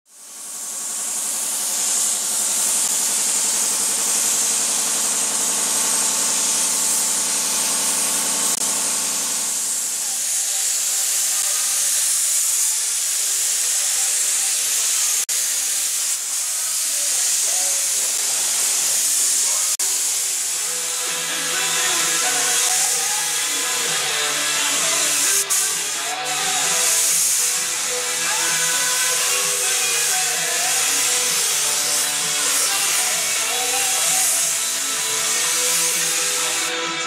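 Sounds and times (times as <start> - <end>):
paint spray gun hissing: 0.1 - 36.9.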